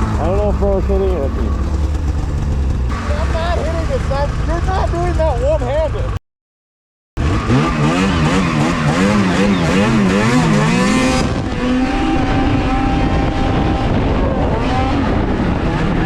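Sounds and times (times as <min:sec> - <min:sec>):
snowmobile engine revving: 0:00.0 - 0:06.2, 0:07.2 - 0:16.0.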